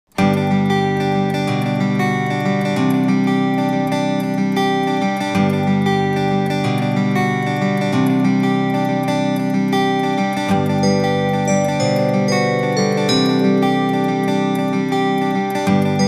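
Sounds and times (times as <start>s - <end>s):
acoustic guitar music: 0.1s - 16.0s.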